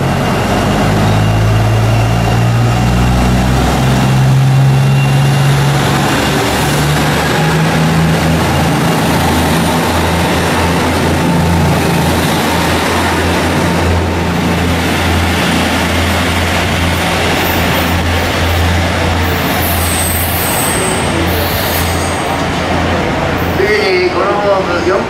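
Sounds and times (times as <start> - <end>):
diesel railcar engines droning: 0.0 - 25.0.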